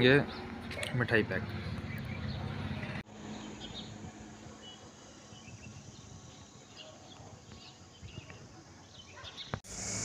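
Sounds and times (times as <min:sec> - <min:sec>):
faint outdoor ambience: 0:00.0 - 0:10.0.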